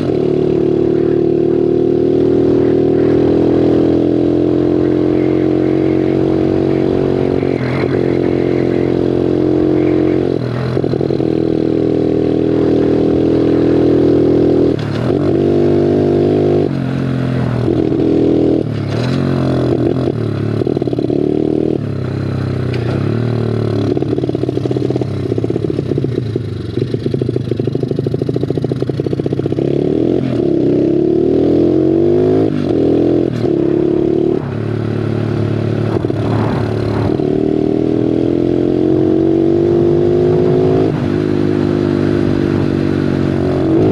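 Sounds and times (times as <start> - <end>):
pit bike engine revving: 0.0 - 43.9.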